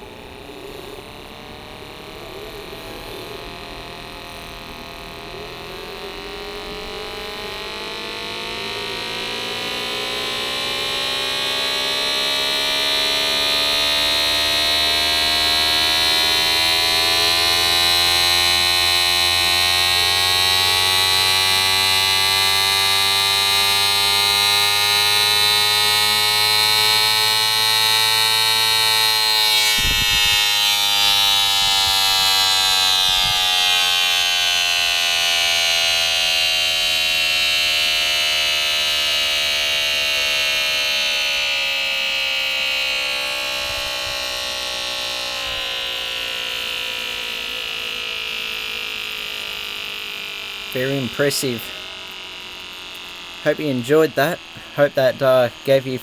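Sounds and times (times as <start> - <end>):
siren wailing: 0.0 - 55.8.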